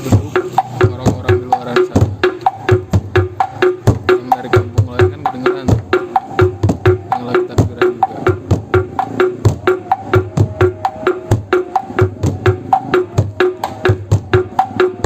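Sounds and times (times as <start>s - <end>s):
sharp pitched knocks: 0.0s - 15.0s.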